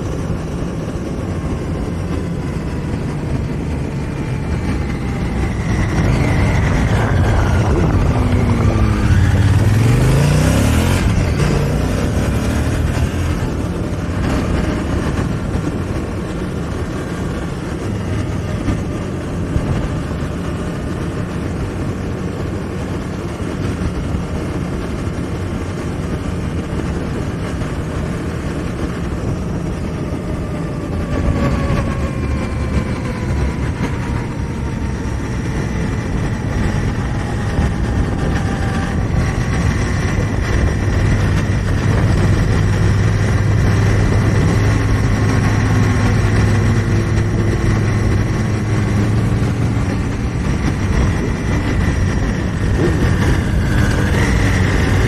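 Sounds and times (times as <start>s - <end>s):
motorcycle engine running: 0.0s - 55.0s
wind rushing past microphone: 0.0s - 55.0s.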